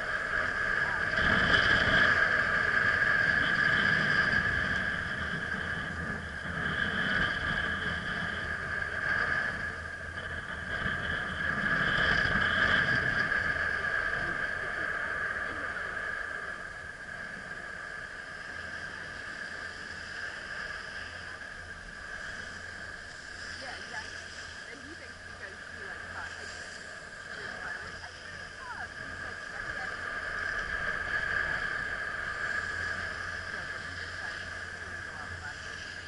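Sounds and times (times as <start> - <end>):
chairlift mechanical whine: 0.0 - 36.0
wind rumble on microphone: 0.0 - 36.0.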